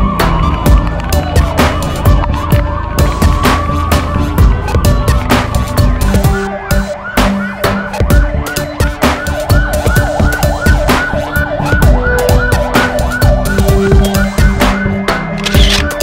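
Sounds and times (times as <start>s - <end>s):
fast yelping siren: 0.0s - 16.0s
music with drum beat and bass: 0.0s - 16.0s.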